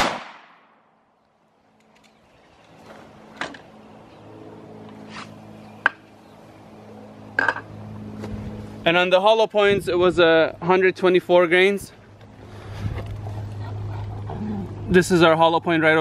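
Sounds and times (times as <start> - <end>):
steady low hum: 0.6 - 16.0.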